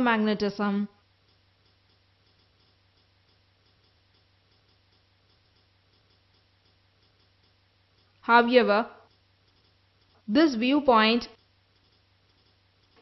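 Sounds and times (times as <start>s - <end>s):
low steady hum: 0.0s - 13.0s
soft regular ticking: 0.0s - 13.0s.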